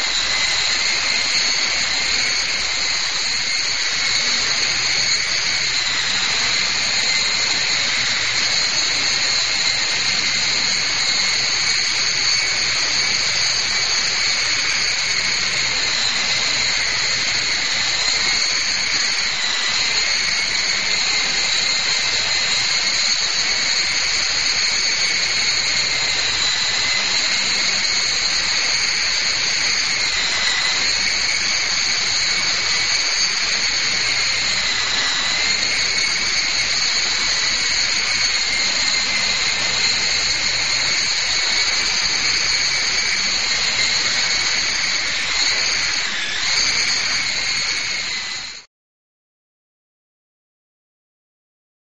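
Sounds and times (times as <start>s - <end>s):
toy helicopter motor whine: 0.0s - 48.7s.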